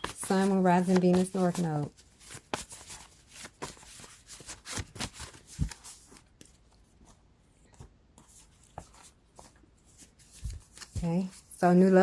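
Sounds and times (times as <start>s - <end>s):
cards being shuffled: 0.0s - 6.8s, 7.7s - 11.5s.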